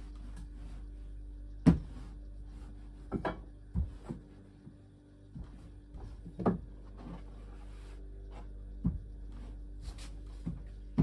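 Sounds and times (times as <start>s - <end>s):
low hum: 0.0s - 11.0s
soft rubbing of dough: 0.0s - 11.0s.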